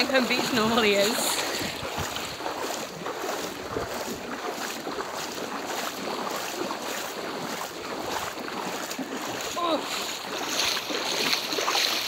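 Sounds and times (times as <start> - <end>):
water splashing around wading legs: 0.0 - 12.0.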